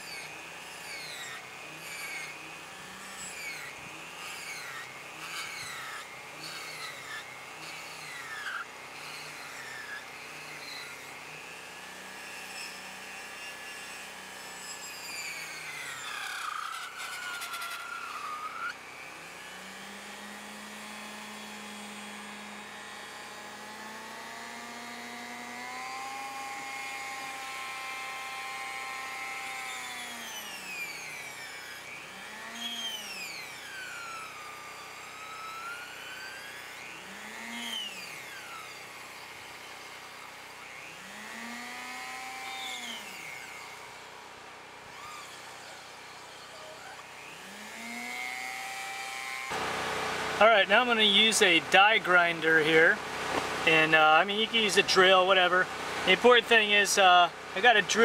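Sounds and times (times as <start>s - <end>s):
rotary tool grinding wood: 0.0s - 58.0s.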